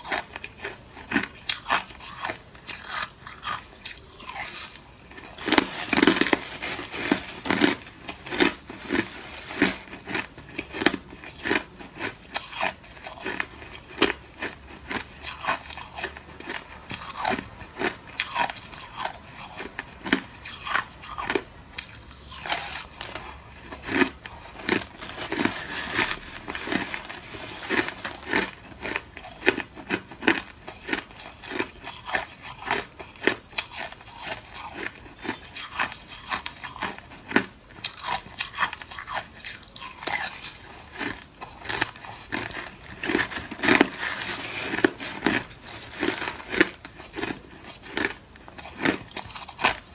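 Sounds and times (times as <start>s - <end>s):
person chewing crushed ice: 0.0s - 49.9s.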